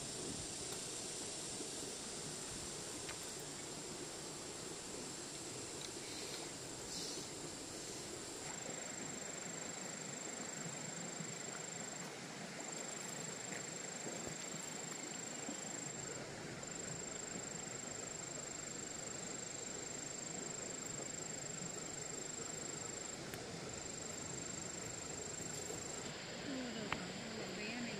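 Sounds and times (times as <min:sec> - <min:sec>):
outdoor hiss: 0:00.0 - 0:27.9.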